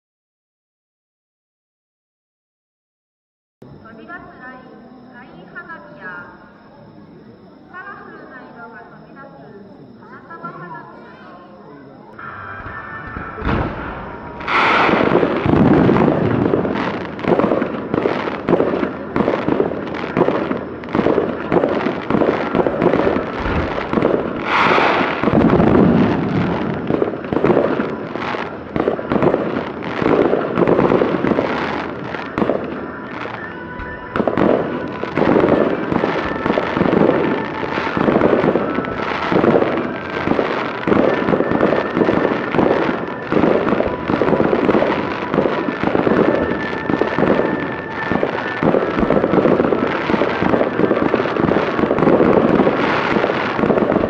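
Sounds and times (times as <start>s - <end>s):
fireworks bursting: 3.7s - 54.0s
fireworks crackling: 3.7s - 54.0s.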